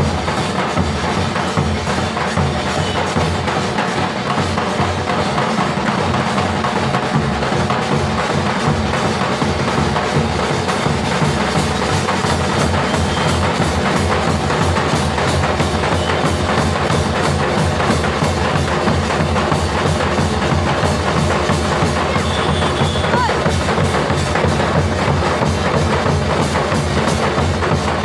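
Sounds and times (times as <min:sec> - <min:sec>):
drum beating steady rhythm: 0:00.0 - 0:28.0.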